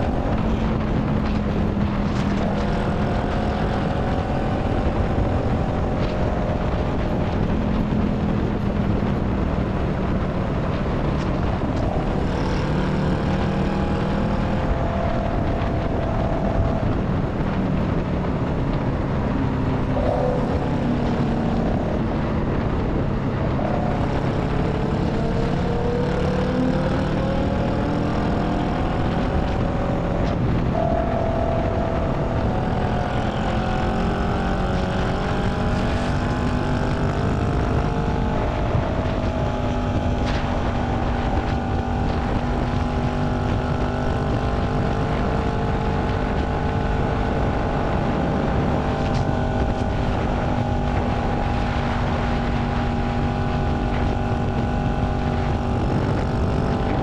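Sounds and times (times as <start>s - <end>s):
motorcycle engine cruising: 0.0s - 57.0s
road and wind noise: 0.0s - 57.0s.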